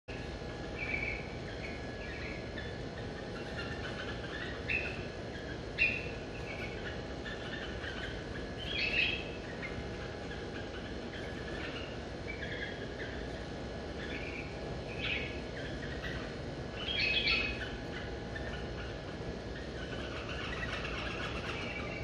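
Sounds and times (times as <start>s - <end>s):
finches chirping: 0.1s - 22.0s
low background hum: 0.1s - 22.0s.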